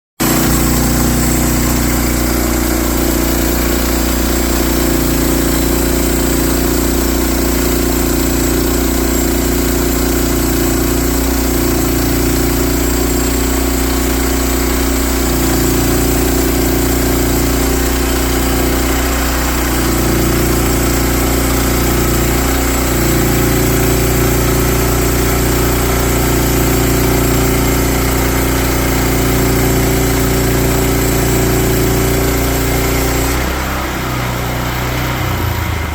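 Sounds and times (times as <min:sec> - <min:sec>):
gasoline engine running: 0:00.2 - 0:35.9.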